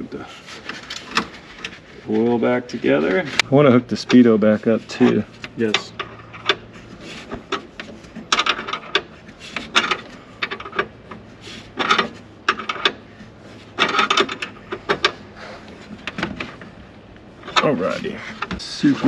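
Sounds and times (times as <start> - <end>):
rustling and scraping of parts: 0.0 - 19.0.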